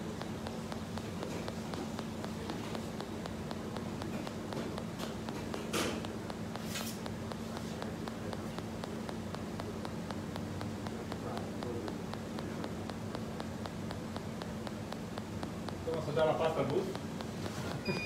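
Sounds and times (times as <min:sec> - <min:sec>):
fast faint ticking: 0:00.0 - 0:18.0.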